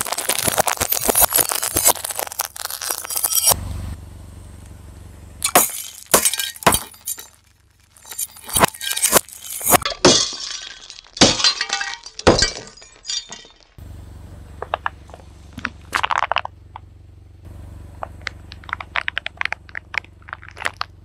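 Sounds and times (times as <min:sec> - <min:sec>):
objects crunching under car tyre: 0:00.0 - 0:03.6, 0:05.4 - 0:13.9, 0:14.5 - 0:16.9, 0:17.9 - 0:21.0.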